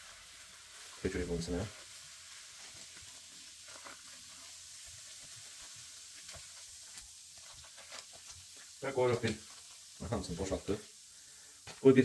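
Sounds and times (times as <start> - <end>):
fizzing bubbles hissing: 0.0 - 12.0.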